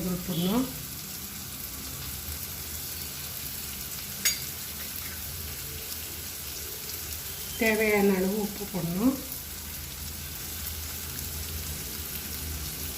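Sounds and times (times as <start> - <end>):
oil sizzling in a pan: 0.0 - 12.9.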